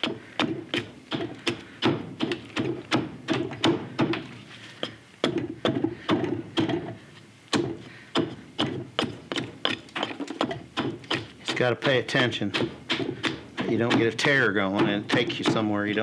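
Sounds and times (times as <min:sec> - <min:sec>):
edge tool chopping wood: 0:00.0 - 0:16.0.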